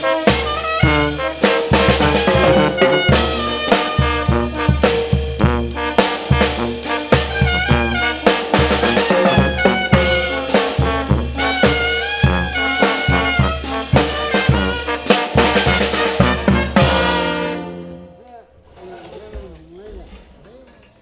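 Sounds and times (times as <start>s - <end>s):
steady drum beat: 0.0s - 18.1s
brass melody: 0.0s - 18.4s.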